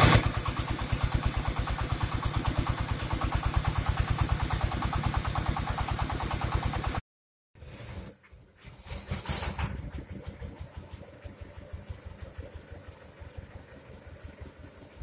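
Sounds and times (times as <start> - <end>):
rice milling machine engine chugging: 0.0 - 7.0, 8.7 - 15.0.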